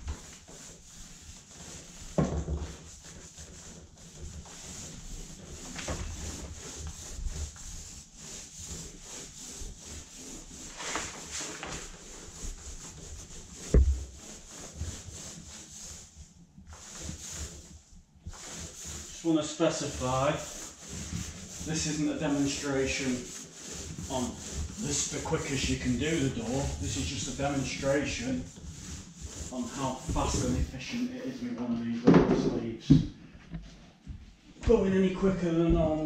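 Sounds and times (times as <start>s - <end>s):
paint roller rubbing on door: 0.0s - 32.5s.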